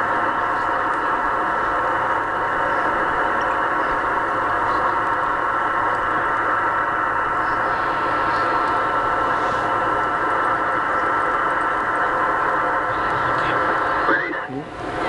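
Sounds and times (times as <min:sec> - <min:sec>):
faint constant whine: 0:00.0 - 0:15.0
static hiss: 0:00.5 - 0:14.6.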